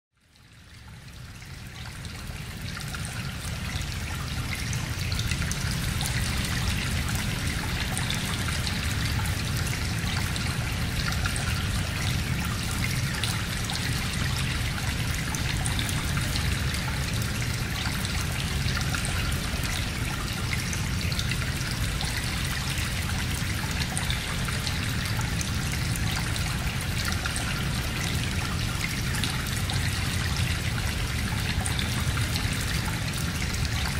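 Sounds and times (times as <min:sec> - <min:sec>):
running water: 0:00.4 - 0:33.9.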